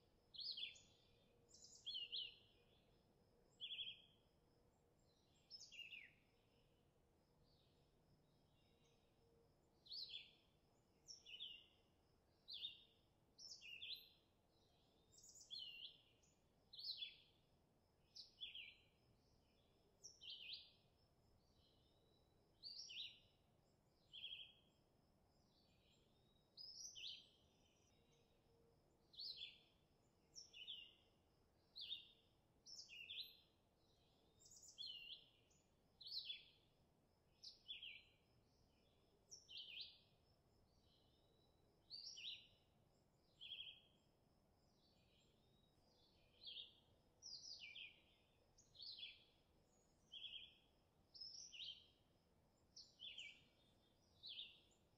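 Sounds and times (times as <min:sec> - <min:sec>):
faint outdoor background noise: 0:00.0 - 0:54.9
songbirds chirping: 0:00.0 - 0:54.9.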